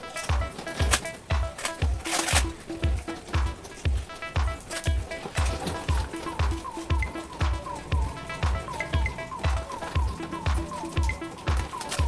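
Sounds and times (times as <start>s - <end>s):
held synth notes: 0.0s - 12.0s
kick-drum beat: 0.0s - 12.0s.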